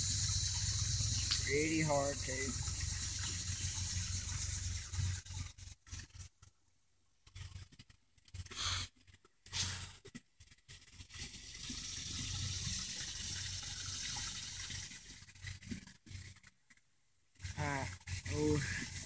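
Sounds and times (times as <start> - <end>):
creek water running: 0.0 - 6.4, 7.2 - 19.0.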